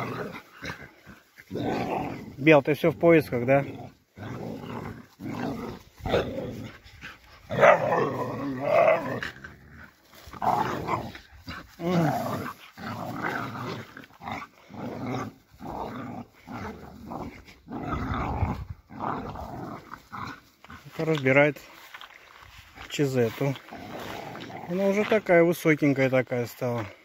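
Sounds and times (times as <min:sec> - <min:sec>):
dogs growling playfully: 0:00.0 - 0:25.4.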